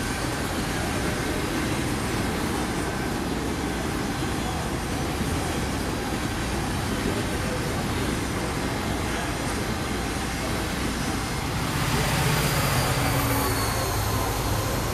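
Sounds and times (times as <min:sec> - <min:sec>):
diesel locomotives rumbling: 0:00.0 - 0:14.9.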